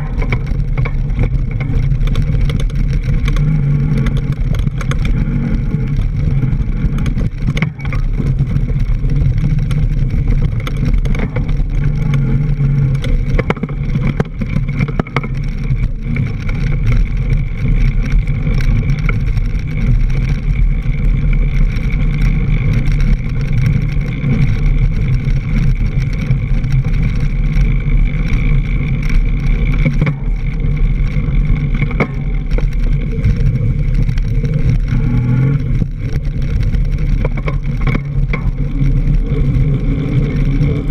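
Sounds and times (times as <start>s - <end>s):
bike rattling over bumps: 0.0s - 40.9s
bike tyre rumbling on dirt: 0.0s - 40.9s.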